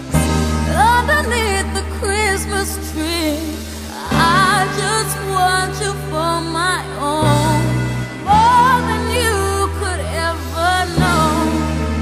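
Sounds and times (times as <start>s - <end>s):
song with wavering vocal: 0.0s - 12.0s.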